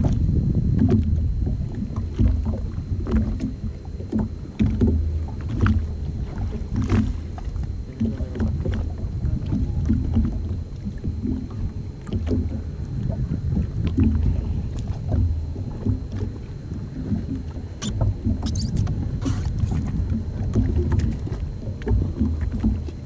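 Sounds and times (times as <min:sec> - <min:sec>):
wind rumble: 0:00.0 - 0:22.9
water against jet ski: 0:00.0 - 0:23.0.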